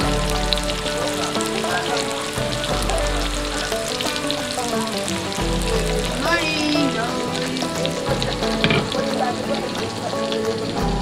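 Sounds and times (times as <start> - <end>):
background music: 0.0 - 11.0
meat patties sizzling in oil: 0.0 - 11.0.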